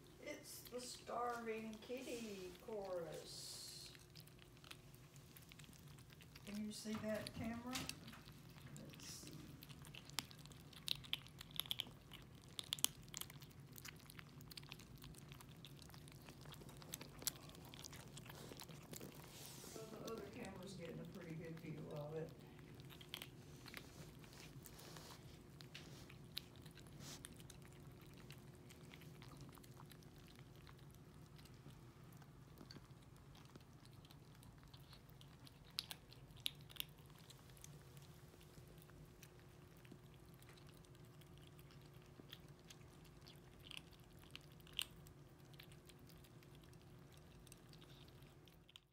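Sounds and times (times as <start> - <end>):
kittens crunching kibble: 0.0 - 48.9
kittens slurping cat food: 0.0 - 48.9
low steady hum: 0.0 - 48.9.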